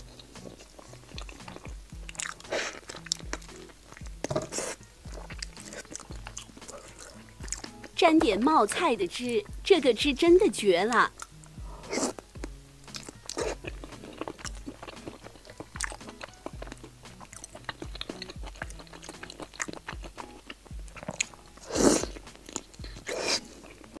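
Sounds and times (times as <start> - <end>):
wet chewing and mouth smacks: 0.0 - 8.0, 11.0 - 24.0
faint background music: 0.0 - 24.0
wet bites: 0.3 - 8.0, 10.9 - 23.2.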